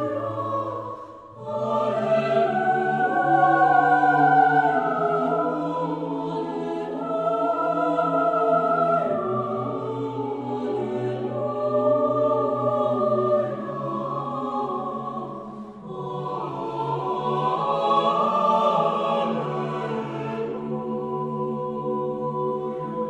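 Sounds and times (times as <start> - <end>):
choral music: 0.0 - 23.0.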